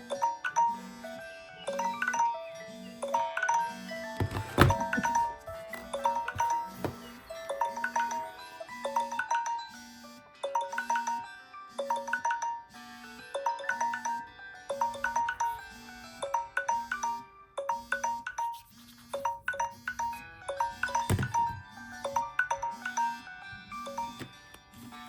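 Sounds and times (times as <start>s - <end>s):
smartphone alarm chime melody: 0.0s - 24.5s.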